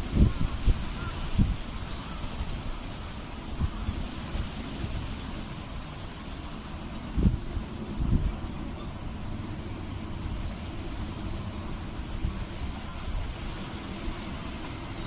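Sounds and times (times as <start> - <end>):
light hiss: 0.0 - 15.0.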